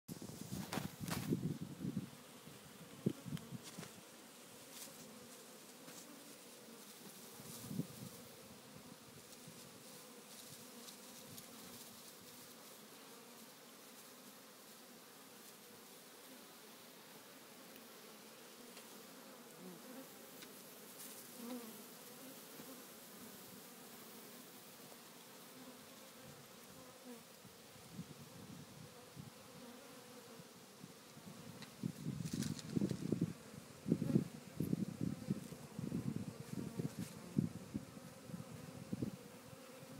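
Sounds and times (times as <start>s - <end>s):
bee swarm buzzing: 0.1s - 39.9s.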